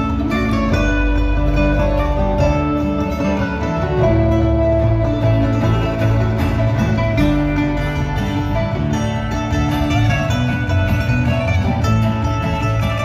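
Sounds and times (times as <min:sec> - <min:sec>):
bluegrass band playing: 0:00.0 - 0:13.0
upright bass line: 0:00.0 - 0:13.0.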